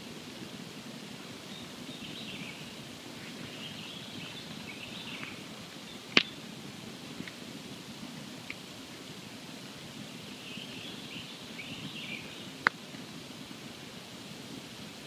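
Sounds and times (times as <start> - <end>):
campfire hissing: 0.0 - 15.0.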